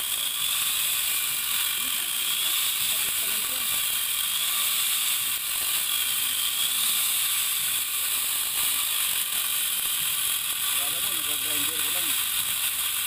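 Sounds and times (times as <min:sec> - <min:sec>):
chainsaw attachment cutting branch: 0:00.0 - 0:13.0.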